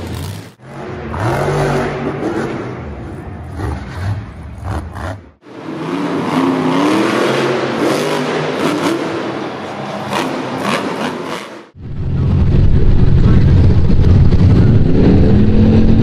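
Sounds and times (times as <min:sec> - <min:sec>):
truck engines revving: 0:00.0 - 0:16.0.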